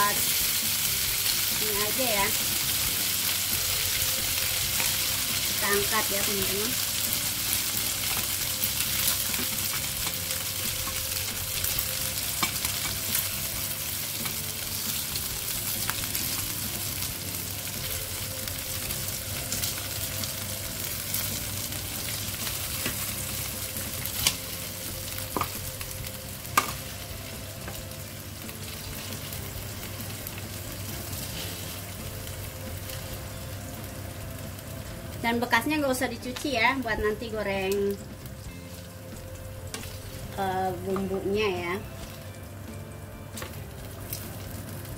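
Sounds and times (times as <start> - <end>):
chicken sizzling in hot oil: 0.0 - 42.7, 43.3 - 44.9.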